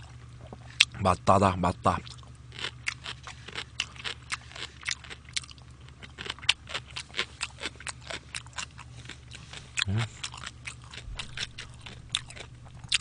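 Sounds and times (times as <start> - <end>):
low steady hum: 0.0 - 13.0
chewing with wet mouth clicks: 2.0 - 13.0.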